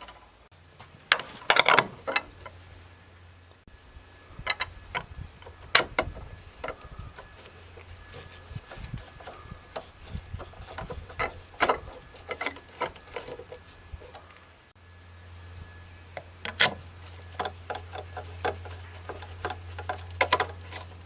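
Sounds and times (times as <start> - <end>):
hand tools clicking and scraping: 0.0 - 2.8, 4.3 - 14.5, 16.1 - 21.0
low steady hum: 0.0 - 21.0.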